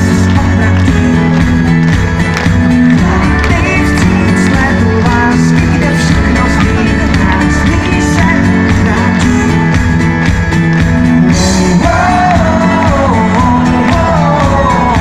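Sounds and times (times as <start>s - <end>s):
pop-rock band playing live: 0.0s - 15.0s.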